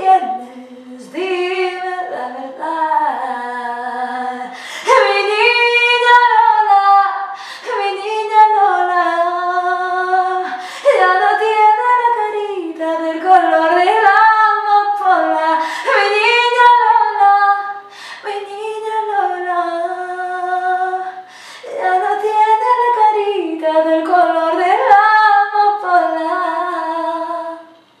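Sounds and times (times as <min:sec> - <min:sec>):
woman singing unaccompanied: 0:00.0 - 0:27.9.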